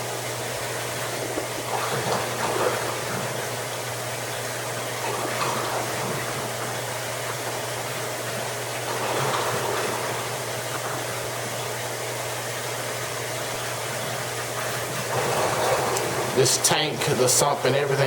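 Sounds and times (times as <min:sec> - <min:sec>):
low pump hum: 0:00.0 - 0:18.0
water gurgling through a drain: 0:00.0 - 0:18.0.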